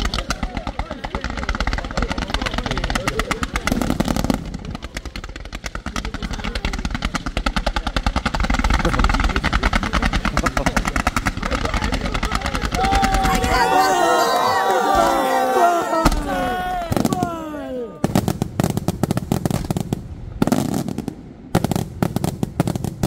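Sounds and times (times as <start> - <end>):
rapid fireworks volley: 0.0 - 23.0.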